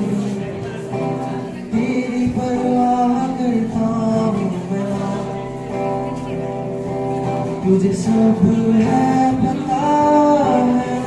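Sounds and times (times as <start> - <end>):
person singing: 0.0 - 5.7, 7.3 - 11.0
instrumental backing: 0.0 - 11.0.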